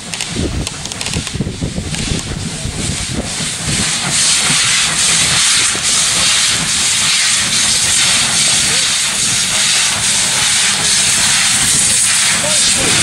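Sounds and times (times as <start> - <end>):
loud hiss of escaping steam: 0.0 - 13.0
low rumble of train: 0.0 - 13.0.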